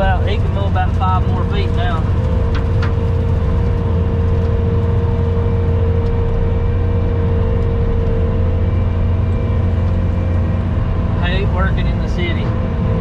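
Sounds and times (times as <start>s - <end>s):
engine heavy low drone: 0.0s - 13.0s.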